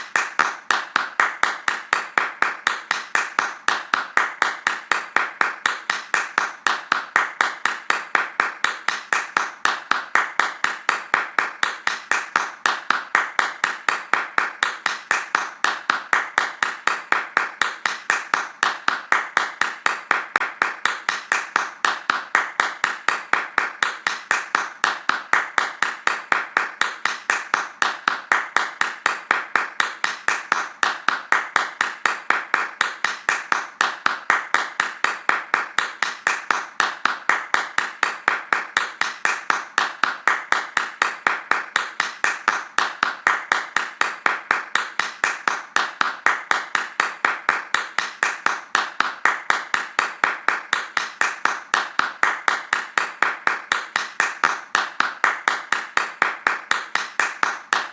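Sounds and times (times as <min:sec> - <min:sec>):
hands clapping fast: 0:00.0 - 0:57.9.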